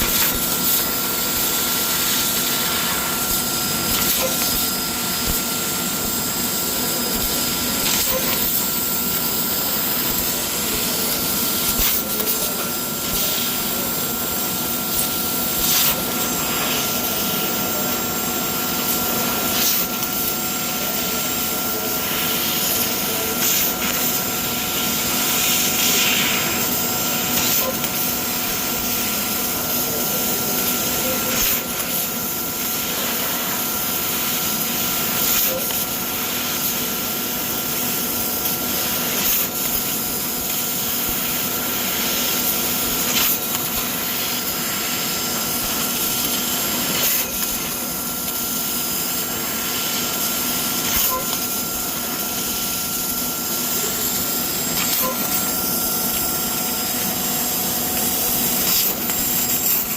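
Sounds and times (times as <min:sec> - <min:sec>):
constant machine whine: 0:00.0 - 0:59.9
laser cutting machine hiss: 0:00.0 - 0:59.9.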